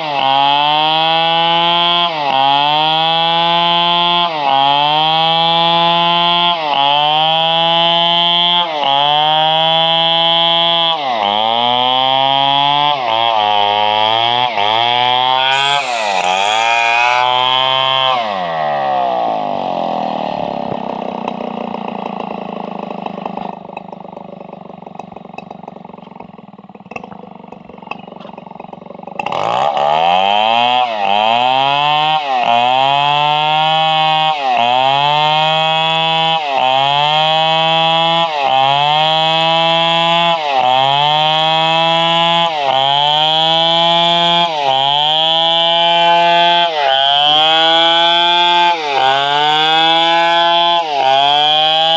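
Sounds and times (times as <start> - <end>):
chainsaw running at high revs: 0.0 - 51.9.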